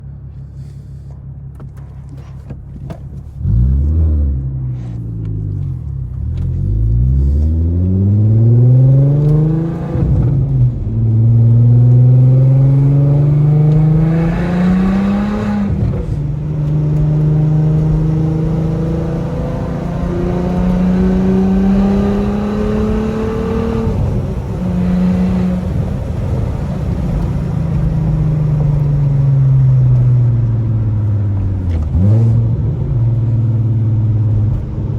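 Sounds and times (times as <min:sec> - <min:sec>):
car engine revving: 0:01.8 - 0:34.9.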